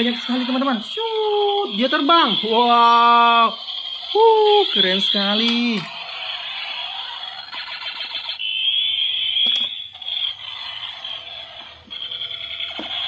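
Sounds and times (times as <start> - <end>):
toy electronic alarm sounds: 0.0 - 13.0.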